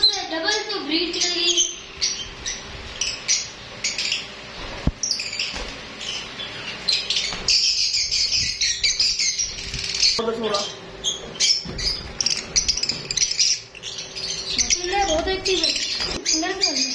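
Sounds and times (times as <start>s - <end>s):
lovebirds chirping: 0.0s - 16.9s.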